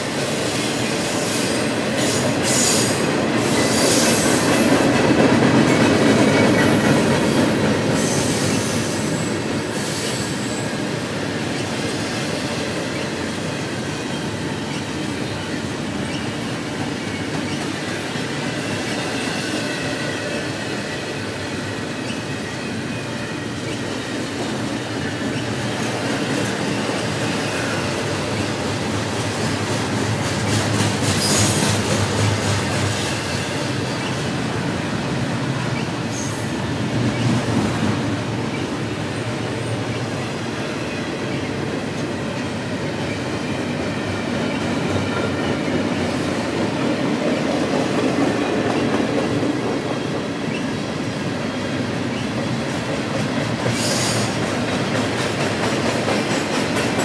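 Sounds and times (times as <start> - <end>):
steel wheels on rails: 0.0 - 57.0
train clanks: 0.0 - 57.0.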